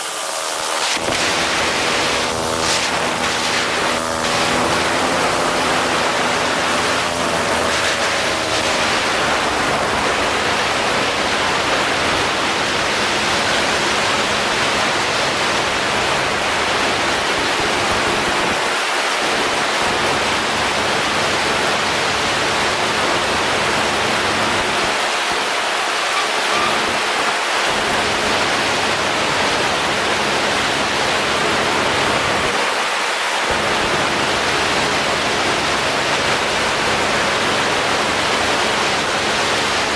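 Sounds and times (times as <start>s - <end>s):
faint paramotor engine drone: 0.0s - 39.9s.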